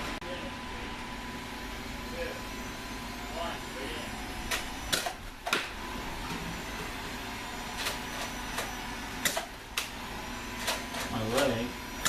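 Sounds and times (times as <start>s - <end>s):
steady mechanical whir: 0.0s - 12.0s.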